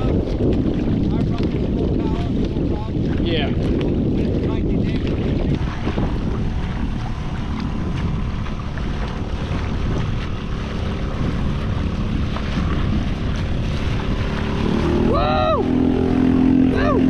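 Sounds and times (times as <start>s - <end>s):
water washing around kayak: 0.0s - 17.0s
wind buffeting microphone: 0.0s - 17.0s.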